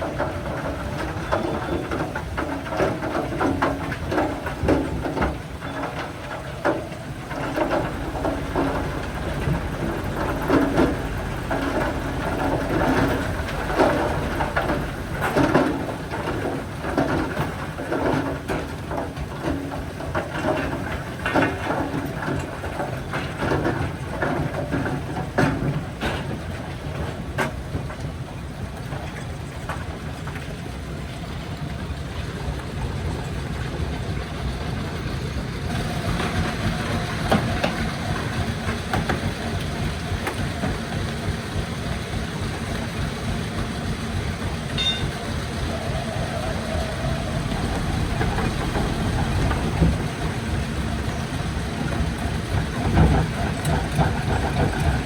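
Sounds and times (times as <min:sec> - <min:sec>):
rock-crushing machinery rumbling: 0:00.0 - 0:55.0.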